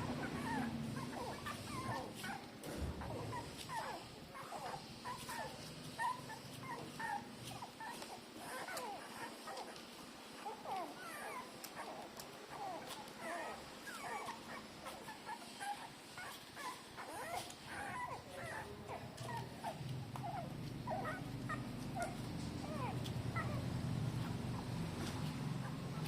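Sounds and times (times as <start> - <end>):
puppies squeaking and whimpering: 0.0 - 26.0.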